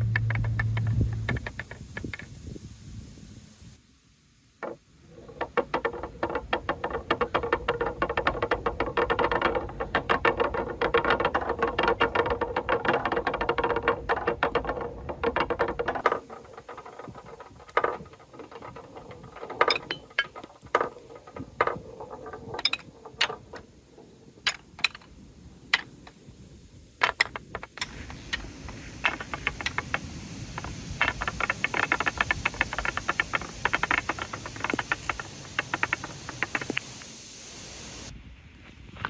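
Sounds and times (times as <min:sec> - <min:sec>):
balls rattling down wooden marble run: 0:00.0 - 0:02.3, 0:04.6 - 0:25.2, 0:25.8 - 0:26.2, 0:27.0 - 0:37.2.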